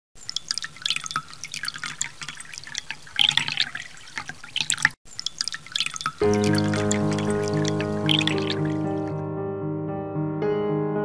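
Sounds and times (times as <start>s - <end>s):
water drops plopping: 0.2s - 9.1s.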